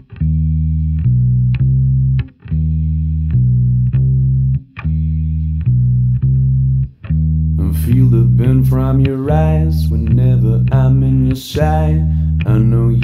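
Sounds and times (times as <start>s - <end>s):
bass guitar riff: 0.0s - 13.0s
electric guitar riff: 0.0s - 13.0s.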